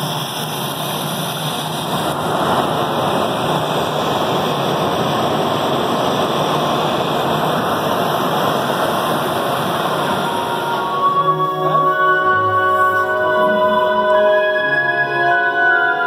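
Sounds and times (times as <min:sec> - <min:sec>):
rushing noise over loudspeakers: 0:00.0 - 0:16.0.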